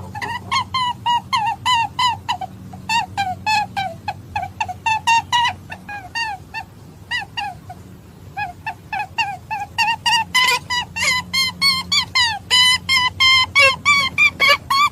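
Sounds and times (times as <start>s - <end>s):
rabbit squeaking: 0.0s - 14.9s.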